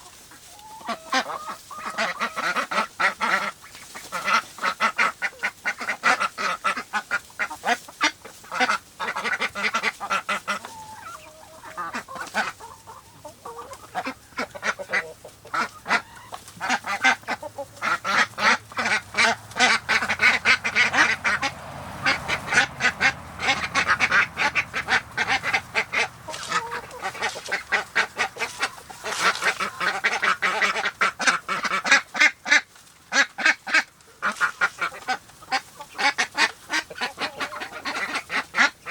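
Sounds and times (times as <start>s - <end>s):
waterfowl quacking and honking: 0.0s - 38.9s.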